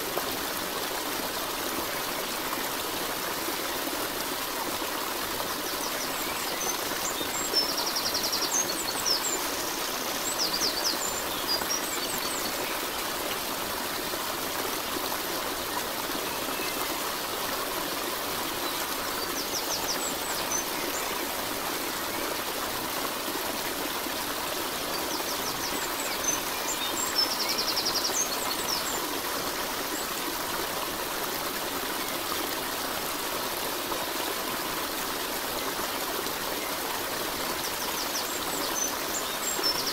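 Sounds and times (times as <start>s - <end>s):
stream rushing and trickling: 0.0s - 39.9s.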